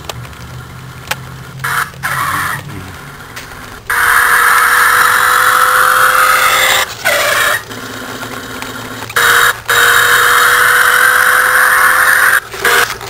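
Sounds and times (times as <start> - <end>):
toy car electronic engine sound: 1.0 - 3.3, 3.9 - 13.0.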